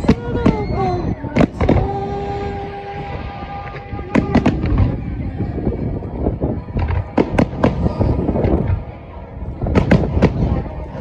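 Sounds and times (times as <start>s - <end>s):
low rolling rumble: 0.0s - 11.0s.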